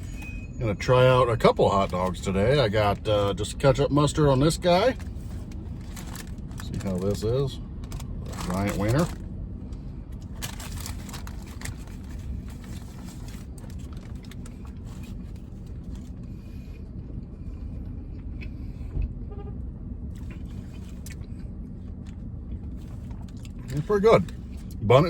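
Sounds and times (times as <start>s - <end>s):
vehicle rumble from inside: 0.0s - 25.0s.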